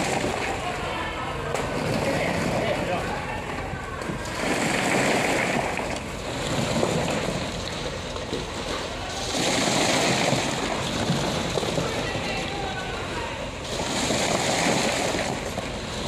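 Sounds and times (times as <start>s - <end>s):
truck engine rumble: 0.0s - 16.0s
wet concrete sliding down chute: 0.0s - 16.0s.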